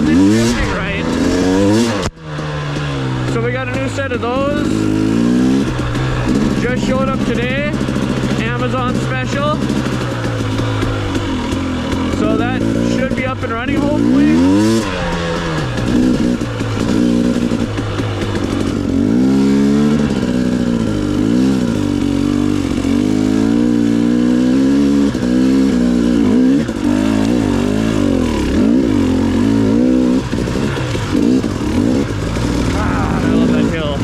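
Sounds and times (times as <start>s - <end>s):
off-road vehicle engine revving: 0.0s - 34.0s.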